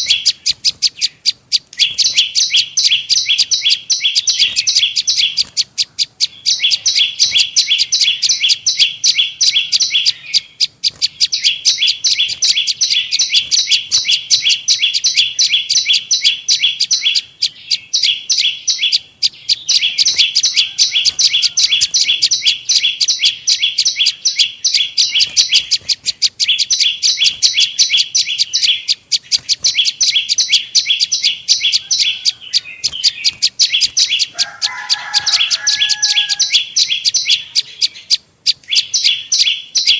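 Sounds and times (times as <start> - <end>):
bird high sharp chirps: 0.0 - 39.9.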